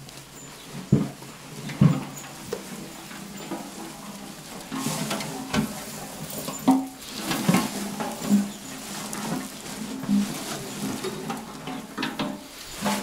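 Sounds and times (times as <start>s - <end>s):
cut grass rustling: 0.0s - 13.0s.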